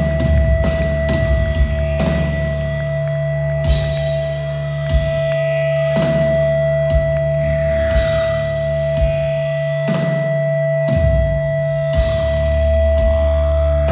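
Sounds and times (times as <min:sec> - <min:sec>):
drum and cymbal hits: 0:00.0 - 0:13.9
low bass and guitar drone: 0:00.0 - 0:13.9.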